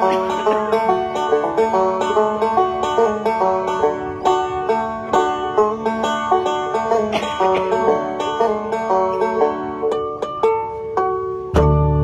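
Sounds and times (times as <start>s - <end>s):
banjo picking fast notes: 0.0s - 12.0s
bluegrass band playing: 0.0s - 12.0s.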